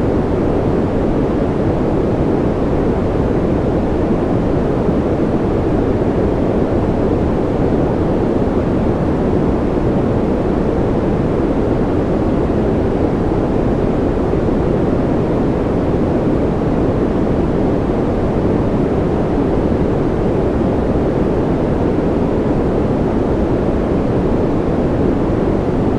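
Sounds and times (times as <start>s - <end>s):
deep steady white noise: 0.0s - 25.9s.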